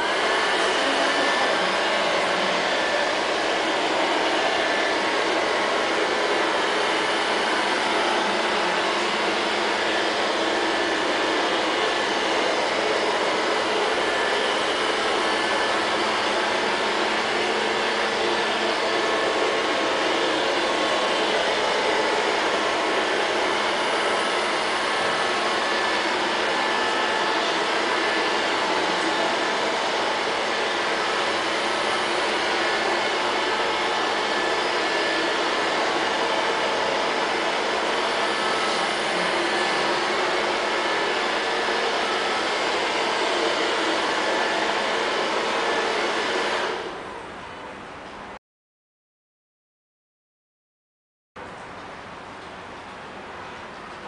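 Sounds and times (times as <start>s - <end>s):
robot vacuum cleaner whirring: 0.0s - 47.2s.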